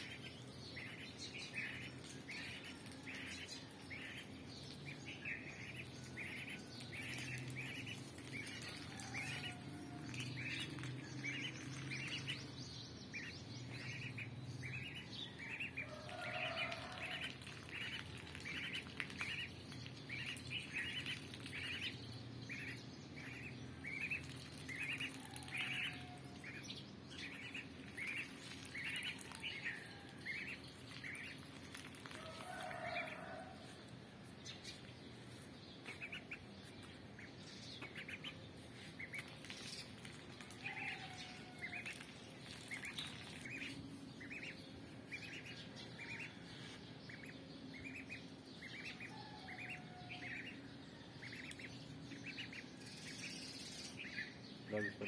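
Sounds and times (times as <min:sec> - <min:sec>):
duckling peeping: 0:00.0 - 0:04.3, 0:05.1 - 0:12.5, 0:13.1 - 0:33.3, 0:35.8 - 0:50.6, 0:51.2 - 0:53.2.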